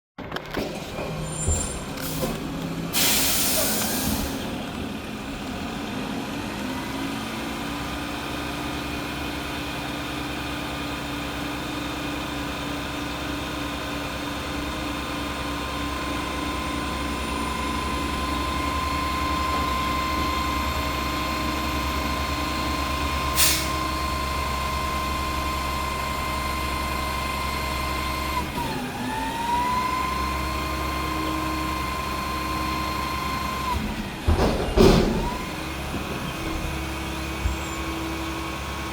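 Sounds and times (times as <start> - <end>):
truck engine running: 0.6 - 38.9.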